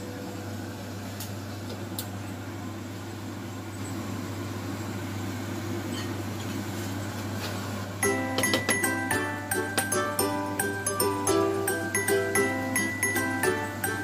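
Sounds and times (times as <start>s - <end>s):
electric cooktop humming: 0.0s - 14.0s.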